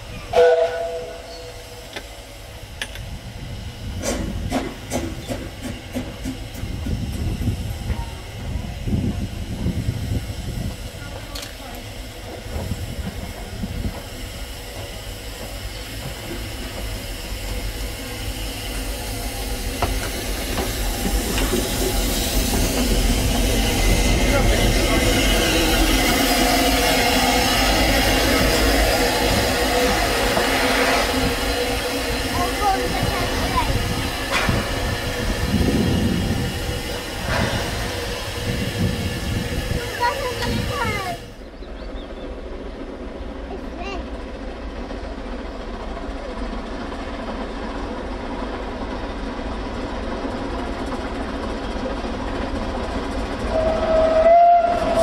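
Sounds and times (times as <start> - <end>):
steam locomotive hissing and rumbling: 0.0 - 55.0.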